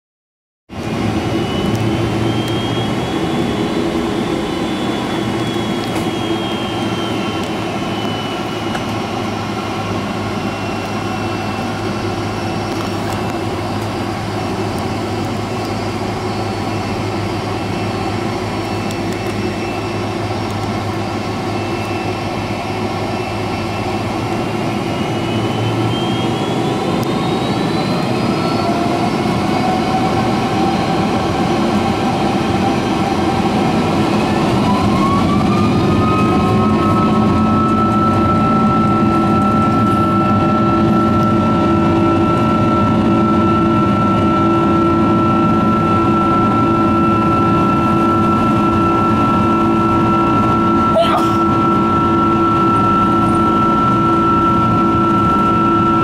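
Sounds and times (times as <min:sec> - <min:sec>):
jet engine whine and rumble: 0:00.7 - 0:56.0.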